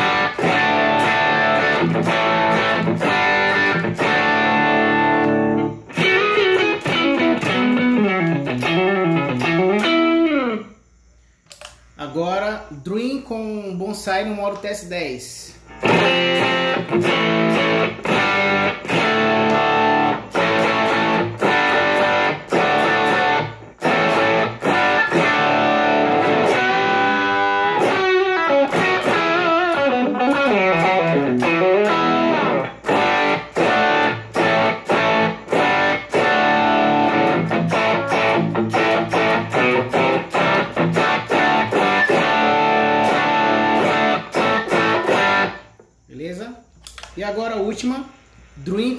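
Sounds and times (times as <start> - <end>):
overdriven electric guitar: 0.0 - 10.7, 15.6 - 45.7.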